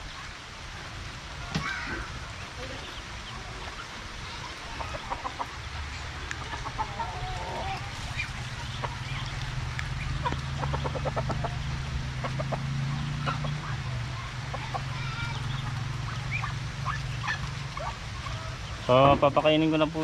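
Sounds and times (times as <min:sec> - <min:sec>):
chickens clucking: 0:01.4 - 0:20.0.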